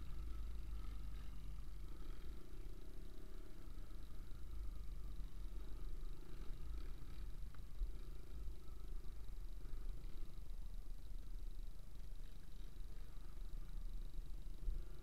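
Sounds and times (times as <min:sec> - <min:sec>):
dirt bike engine running: 0:00.0 - 0:15.0
ride rumble on microphone: 0:00.0 - 0:15.0.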